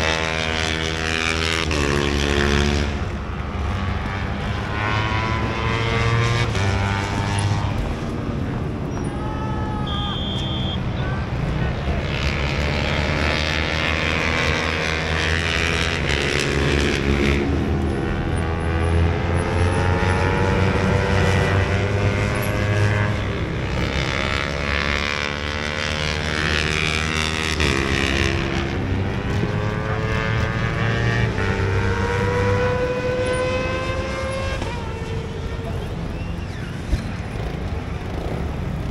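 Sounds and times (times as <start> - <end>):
motorcycle engine revving: 0.0 - 8.9, 11.1 - 38.9.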